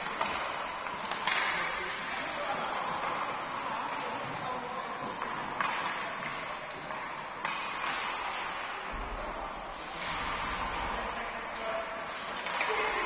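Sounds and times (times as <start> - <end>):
hockey stick hitting puck: 0.0 - 11.2, 12.1 - 13.0.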